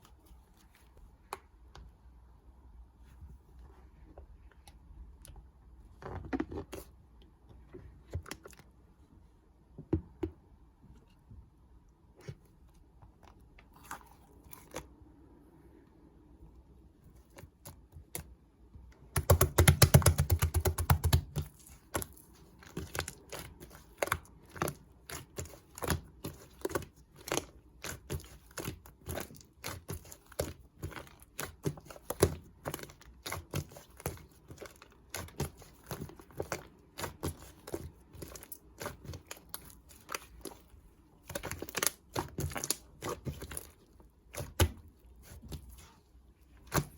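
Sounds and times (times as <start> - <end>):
slime squishing with clicks: 0.0 - 2.6, 4.1 - 9.0, 9.6 - 15.9, 16.5 - 46.9.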